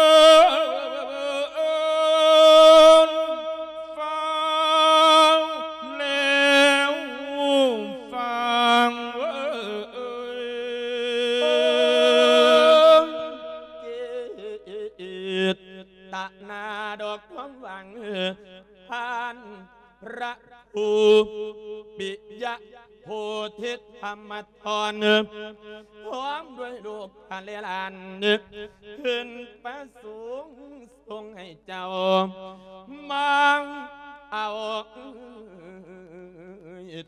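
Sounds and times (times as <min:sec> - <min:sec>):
man chanting a sung sermon: 0:00.0 - 0:37.0.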